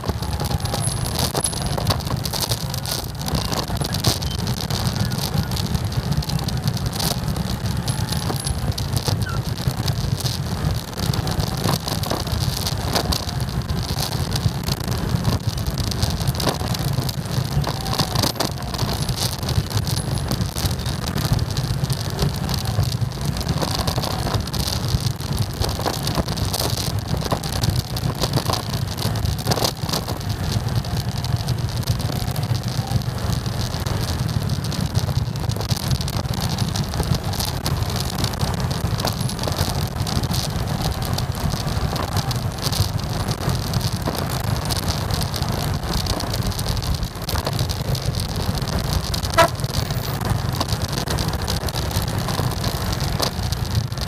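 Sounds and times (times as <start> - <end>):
motorcycle and scooter engines rumbling: 0.0 - 54.0.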